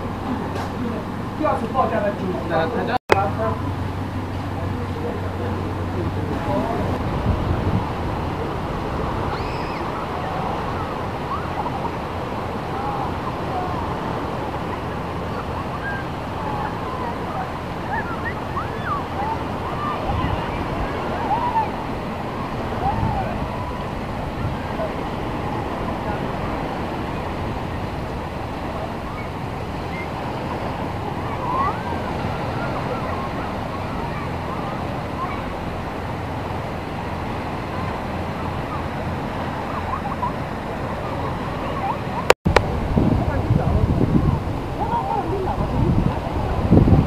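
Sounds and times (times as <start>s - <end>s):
distant voices: 0.0s - 47.0s
small waves on sandy beach: 0.0s - 47.0s
wind buffeting microphone: 0.0s - 47.0s.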